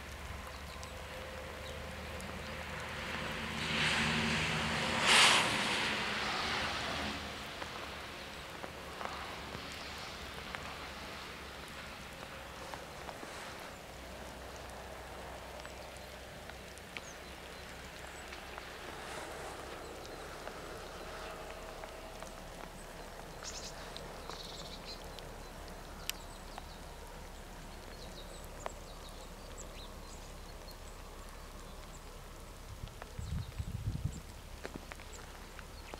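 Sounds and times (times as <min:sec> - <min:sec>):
faint clicks and ticks: 0:00.0 - 0:02.9, 0:07.5 - 0:35.9
outdoor background noise: 0:00.0 - 0:35.9.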